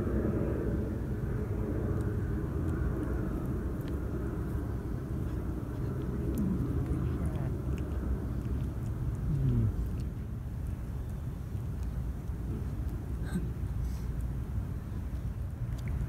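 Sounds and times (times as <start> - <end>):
low outdoor rumble: 0.0 - 16.0
cat chewing clicks: 1.6 - 16.0.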